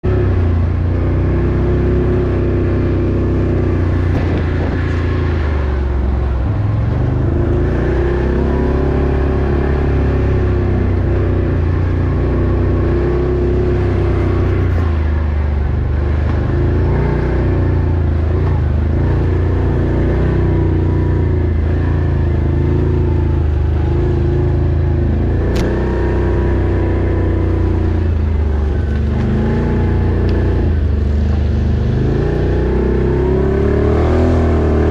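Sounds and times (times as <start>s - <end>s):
off-road vehicle engine revving: 0.0s - 34.9s.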